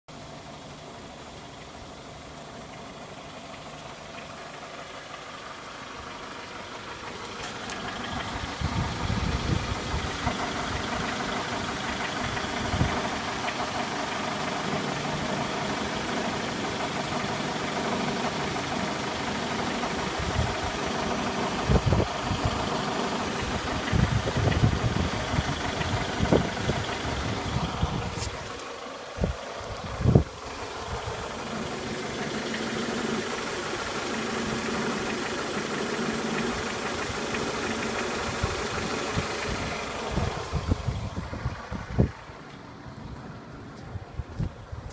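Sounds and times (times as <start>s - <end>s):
vehicle engine running: 0.1s - 44.9s.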